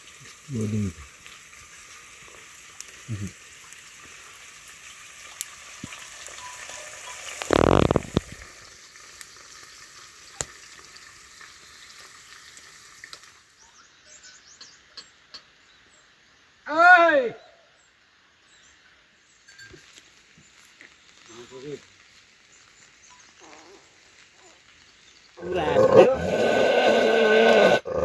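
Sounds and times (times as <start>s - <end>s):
crackling hiss: 0.0s - 16.8s, 17.4s - 28.0s.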